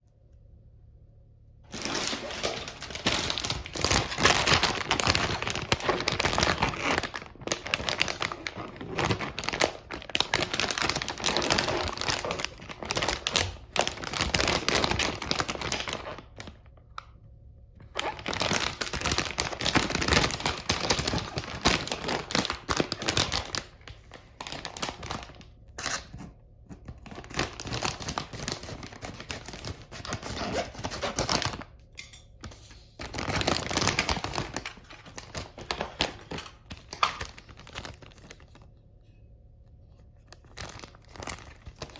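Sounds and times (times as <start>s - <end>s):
packaging crinkling and tearing: 1.7s - 16.8s, 17.8s - 31.8s, 32.4s - 38.7s, 40.0s - 41.9s.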